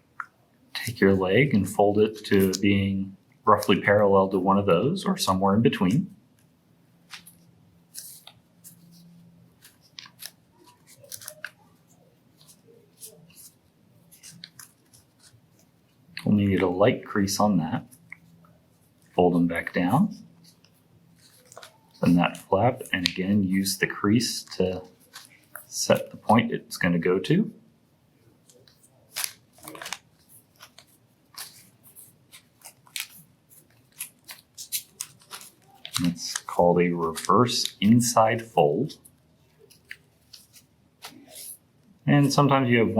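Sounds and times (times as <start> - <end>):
paper crinkling and crackling: 0.7 - 2.8, 3.5 - 4.4, 6.3 - 26.4, 28.3 - 42.9.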